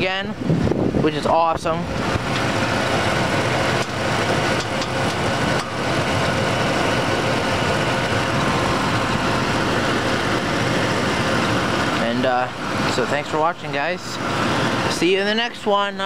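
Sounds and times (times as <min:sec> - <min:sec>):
truck engine idling: 0:00.4 - 0:16.0.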